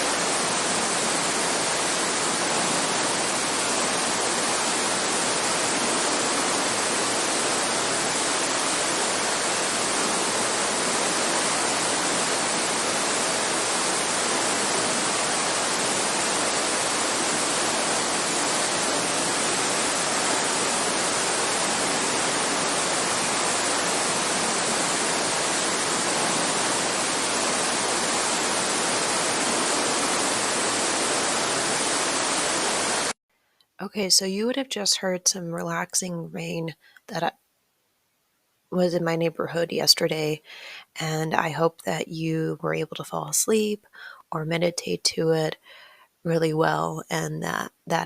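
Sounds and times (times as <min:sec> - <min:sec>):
steady rain hiss: 0:00.0 - 0:47.7.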